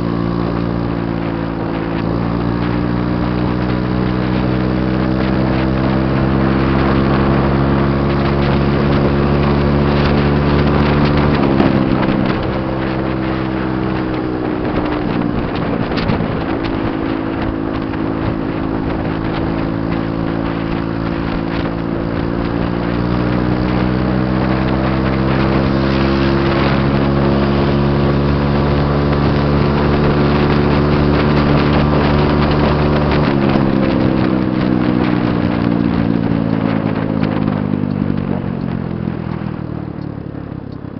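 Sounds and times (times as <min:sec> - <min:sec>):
motorbike engine and exhaust: 0:00.0 - 0:40.9
wind rushing over microphone: 0:00.0 - 0:40.9.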